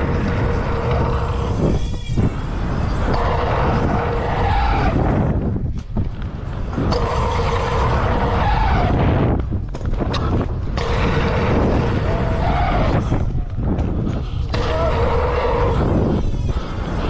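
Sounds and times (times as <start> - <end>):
bike tyres rolling on dirt: 0.0 - 17.0
wind on microphone: 0.0 - 17.0.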